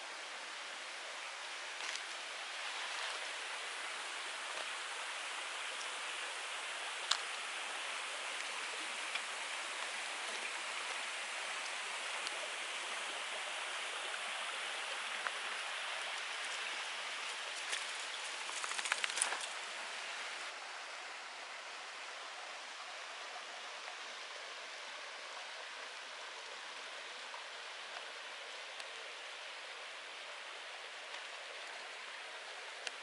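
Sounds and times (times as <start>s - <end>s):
stream flowing over rocks: 0.0s - 33.0s.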